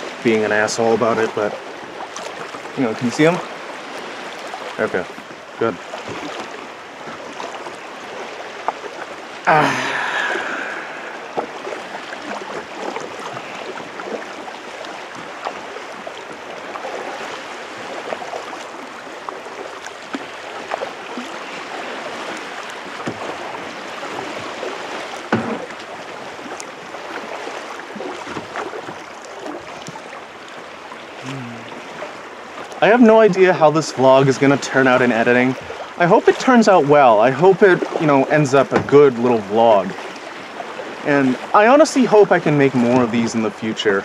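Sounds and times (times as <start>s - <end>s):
paddle splashing: 0.0s - 44.0s
rushing splash: 0.0s - 44.0s
water lapping against hull: 0.0s - 44.0s.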